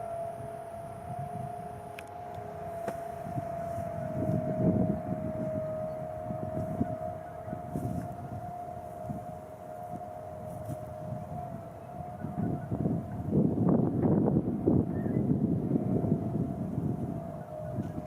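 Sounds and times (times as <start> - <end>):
low rumbling noise: 0.0 - 18.0
warning siren steady tone: 0.0 - 18.0.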